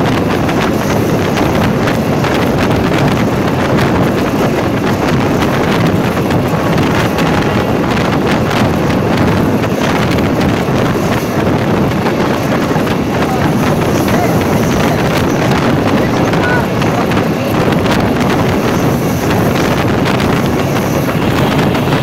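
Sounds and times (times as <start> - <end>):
train rumbling at speed: 0.0 - 22.0
wheels clicking on rails: 0.0 - 22.0
wind buffeting the microphone: 0.0 - 22.0.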